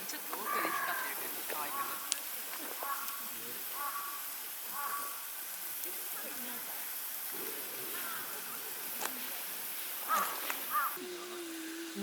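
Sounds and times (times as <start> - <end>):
pot hissing on camp stove: 0.0 - 12.0.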